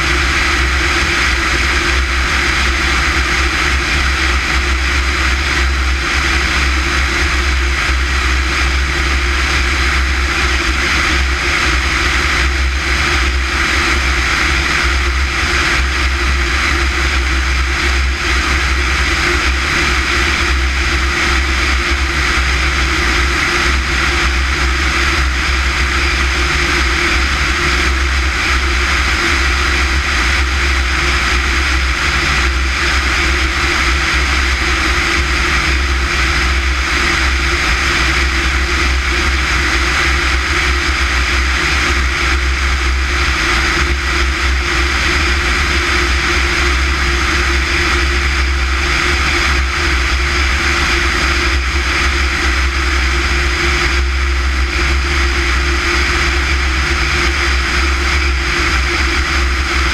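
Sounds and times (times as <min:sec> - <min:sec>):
propeller airplane drone: 0:00.0 - 0:59.9.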